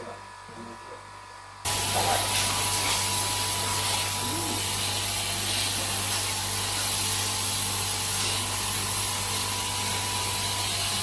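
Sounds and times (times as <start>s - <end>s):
fan motor hum: 0.0s - 11.0s
electric fan whooshing: 1.2s - 11.0s.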